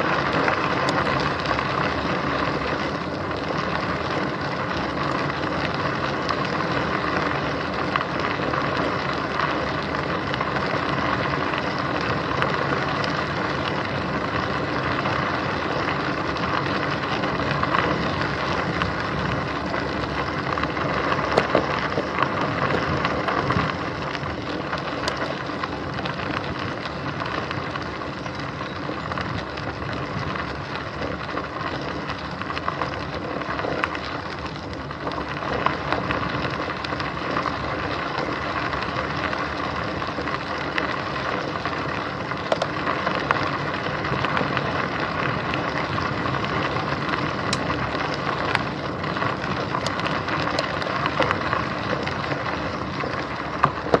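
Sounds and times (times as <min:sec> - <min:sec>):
bicycle tyres rolling on gravel: 0:00.0 - 0:54.0.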